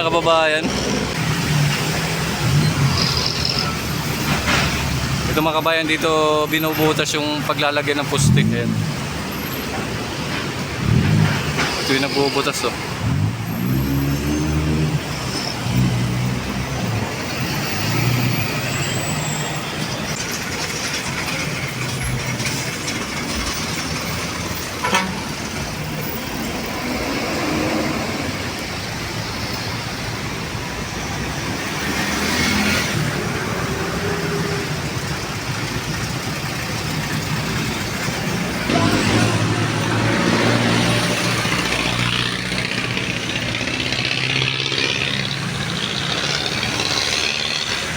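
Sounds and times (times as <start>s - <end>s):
heavy diesel engines running: 0.0s - 47.9s
road traffic: 0.0s - 47.9s.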